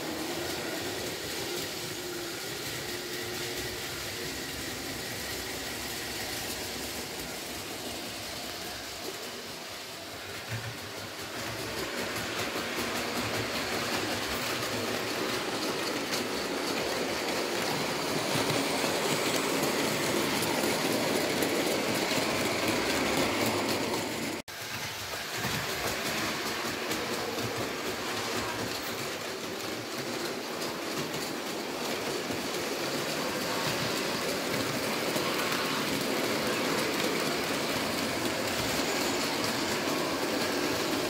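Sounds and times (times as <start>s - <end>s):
model train wheels clattering on rails: 0.0s - 41.0s.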